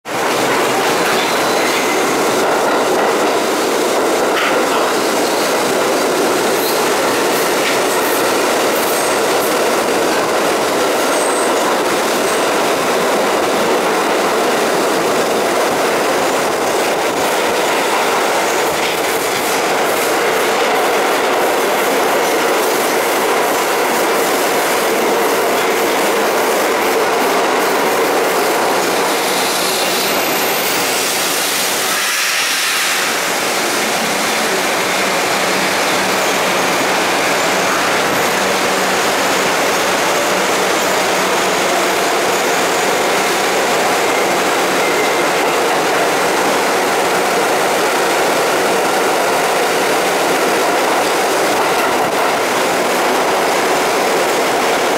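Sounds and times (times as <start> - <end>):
subway train rail and wheel noise: 0.0 - 54.9.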